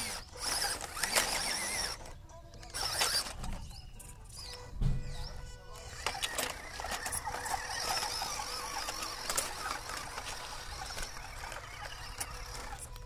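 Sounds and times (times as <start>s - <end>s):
toy car motor whining: 0.0s - 13.0s.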